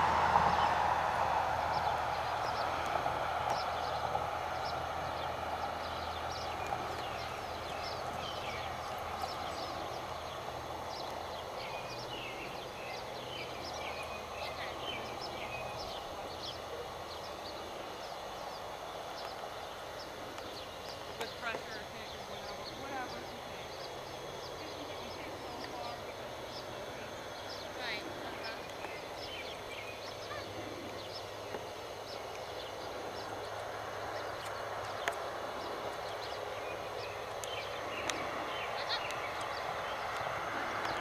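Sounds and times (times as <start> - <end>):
birds chirping: 0.0 - 41.0
rushing background noise: 0.0 - 41.0.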